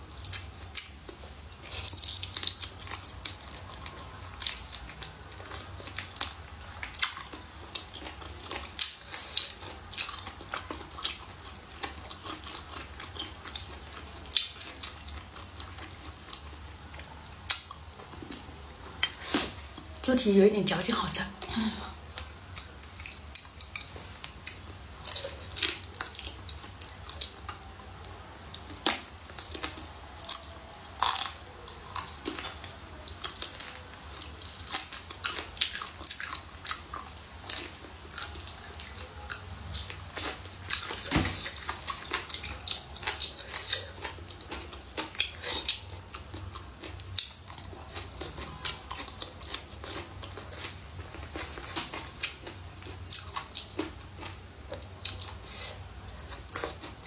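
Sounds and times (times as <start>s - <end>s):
person chewing with mouth clicks: 0.0s - 20.0s, 21.5s - 57.0s.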